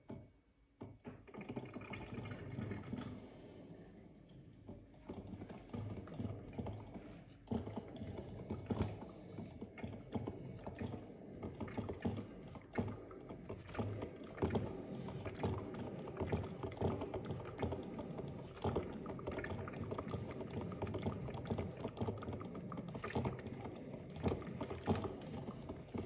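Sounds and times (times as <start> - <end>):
coffee maker gurgling and popping: 0.0 - 26.0.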